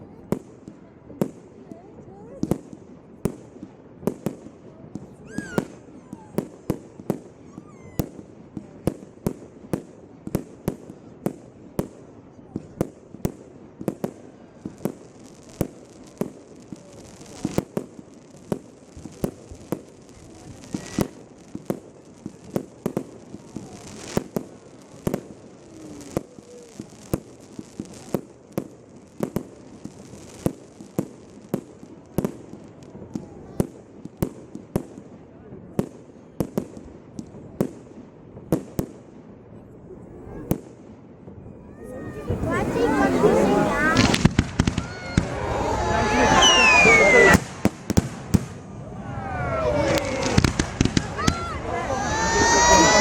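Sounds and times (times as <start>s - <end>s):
faint fireworks whistles: 0.0s - 53.0s
fireworks bangs: 0.1s - 53.0s.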